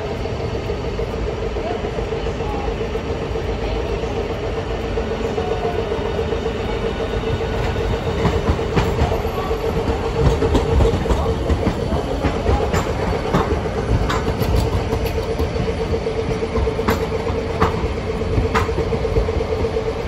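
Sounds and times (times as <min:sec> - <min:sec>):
tram hum: 0:00.0 - 0:20.0
tram wheels clicking over rail joints: 0:00.0 - 0:20.0.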